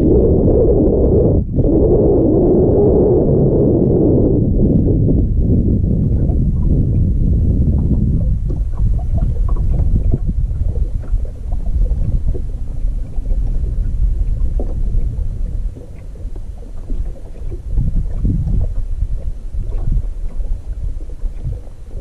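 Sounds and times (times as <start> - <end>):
wind gusting across microphone: 0.0 - 22.0.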